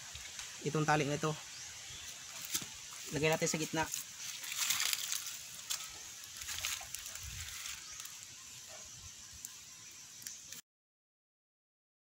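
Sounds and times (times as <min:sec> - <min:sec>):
rustling twigs: 0:00.0 - 0:10.6.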